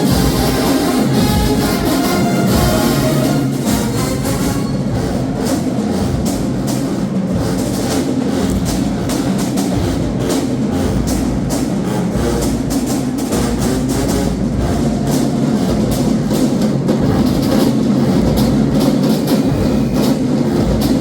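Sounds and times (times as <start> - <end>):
marching band brass: 0.0 - 21.0
steady drum beat: 0.0 - 21.0.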